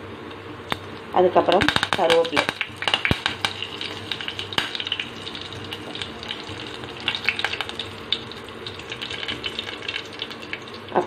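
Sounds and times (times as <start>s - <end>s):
oil popping and crackling: 0.6s - 11.0s
hot oil sizzling: 0.7s - 11.0s.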